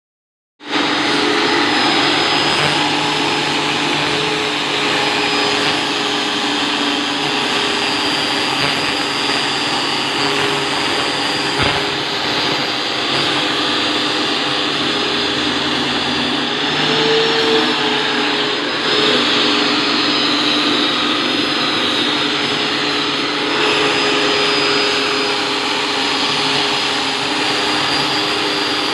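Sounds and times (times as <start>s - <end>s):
router spindle milling wood: 0.6s - 28.9s.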